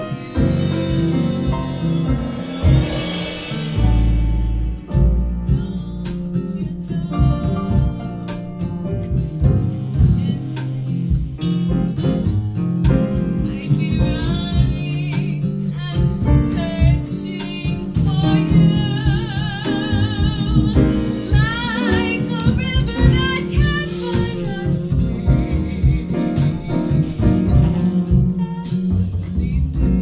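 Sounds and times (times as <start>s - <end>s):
woman singing a slow ballad: 0.0s - 8.7s, 10.0s - 11.0s, 13.4s - 27.6s, 28.2s - 30.0s
jazz band playing: 0.0s - 30.0s.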